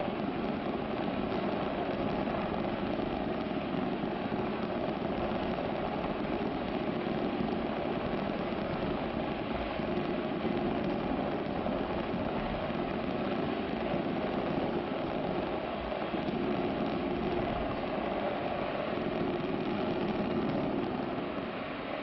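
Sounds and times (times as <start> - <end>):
distant fireworks rumble: 0.0 - 22.0.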